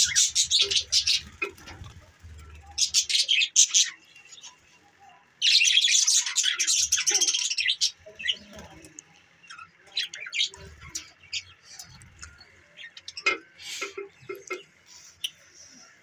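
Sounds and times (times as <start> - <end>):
budgerigars chirping: 0.0 - 4.0, 5.4 - 8.8, 9.5 - 15.4.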